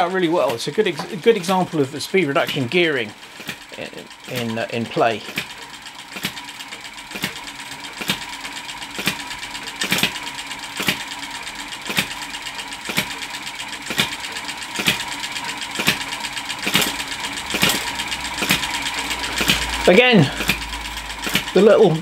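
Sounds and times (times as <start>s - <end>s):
model engine whirring and clicking: 0.0s - 22.0s.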